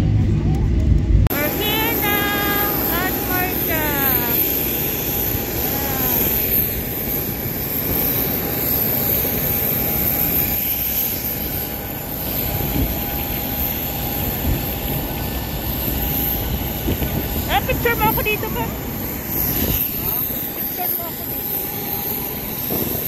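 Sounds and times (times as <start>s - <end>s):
jet engine whine and rumble: 0.0s - 23.0s.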